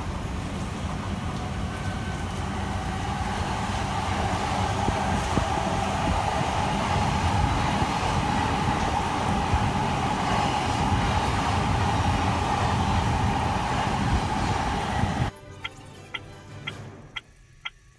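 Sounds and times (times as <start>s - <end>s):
train wheels rumbling on rail: 0.0s - 15.3s.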